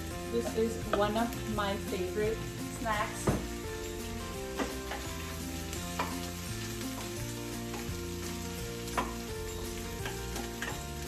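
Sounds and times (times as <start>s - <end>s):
background music with held notes: 0.0s - 11.0s
chickpeas sizzling: 0.0s - 11.0s.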